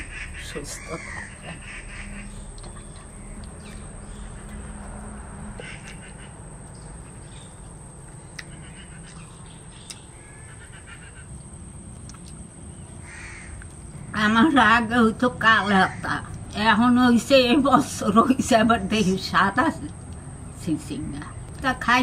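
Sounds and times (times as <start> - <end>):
birds calling: 0.0 - 22.0
low background rumble: 0.0 - 22.0.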